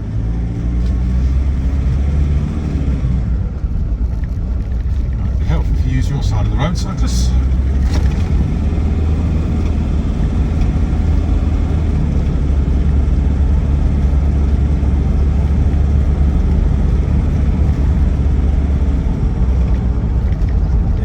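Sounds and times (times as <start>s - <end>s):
diesel engine drone in cabin: 0.0s - 21.0s
road noise: 0.0s - 21.0s.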